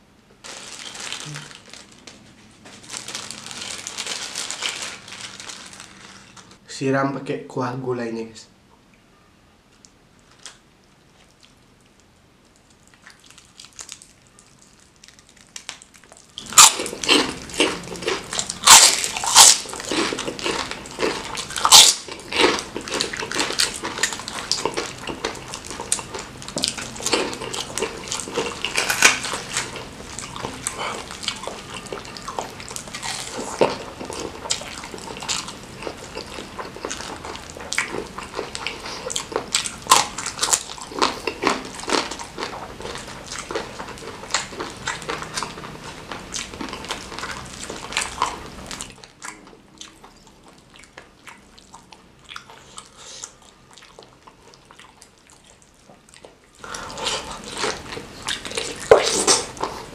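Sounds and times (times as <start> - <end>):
crunching crackers: 0.4 - 6.6, 10.2 - 59.9
wet chewing and lip smacking: 10.9 - 59.9.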